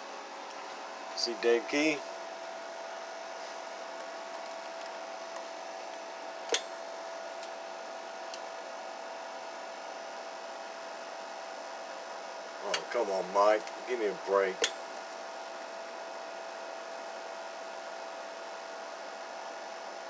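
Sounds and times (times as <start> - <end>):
electrical hum and fan hiss: 0.0 - 20.0.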